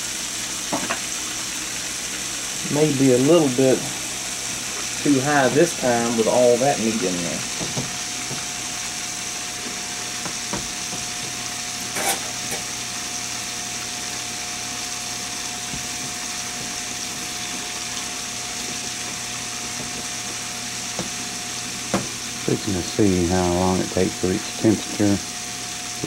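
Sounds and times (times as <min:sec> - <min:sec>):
muffled sizzle in pressure cooker: 0:00.0 - 0:26.0.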